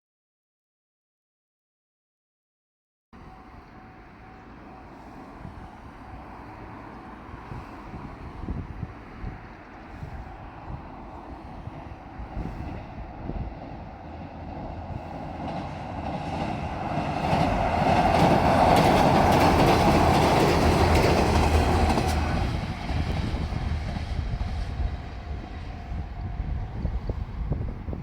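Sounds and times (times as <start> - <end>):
wheels clacking over rail joints: 3.2 - 26.3
diesel train passing: 3.2 - 28.0.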